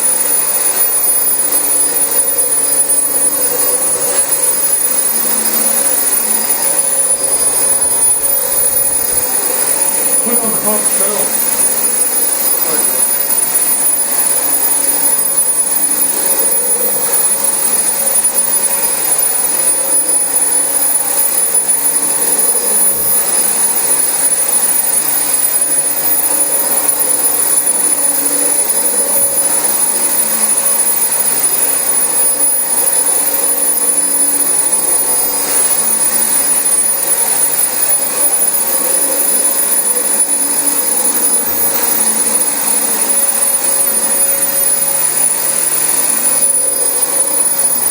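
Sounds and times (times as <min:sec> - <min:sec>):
vacuum cleaner on carpet: 0:00.0 - 0:47.9.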